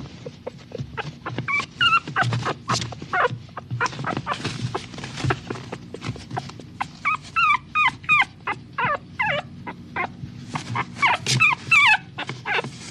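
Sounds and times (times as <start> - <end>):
small dog whimpering: 0.0 - 12.9.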